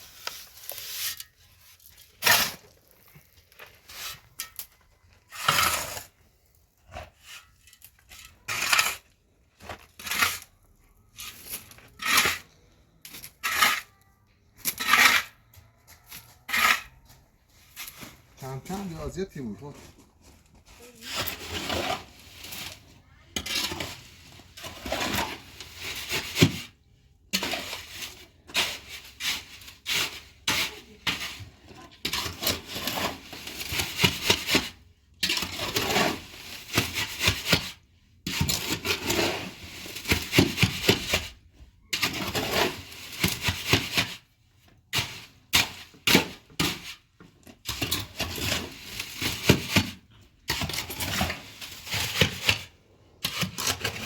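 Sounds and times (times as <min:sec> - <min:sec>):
scraping and rubbing: 0:00.0 - 0:14.0, 0:14.6 - 0:26.6, 0:27.4 - 0:44.3, 0:45.0 - 0:54.0.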